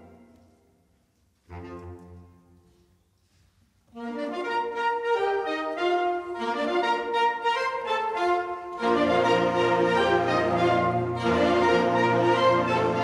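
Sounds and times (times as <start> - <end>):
saxophone ensemble playing: 1.4 - 2.8, 3.9 - 13.0.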